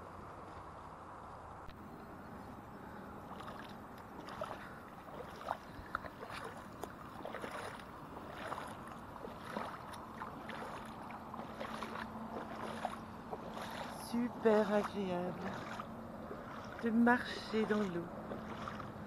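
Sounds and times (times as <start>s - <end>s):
feet splashing through water: 2.8s - 19.0s.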